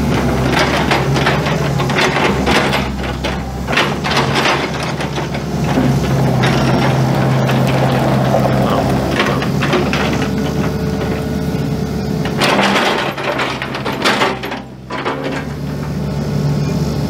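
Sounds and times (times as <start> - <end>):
excavator diesel engine running: 0.0 - 17.0
metallic clanks and rattles: 0.0 - 17.0.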